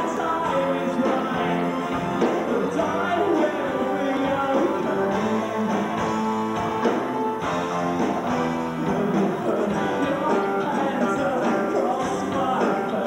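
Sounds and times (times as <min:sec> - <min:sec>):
live rock band playing: 0:00.0 - 0:13.0
ringing guitar chords: 0:00.0 - 0:13.0.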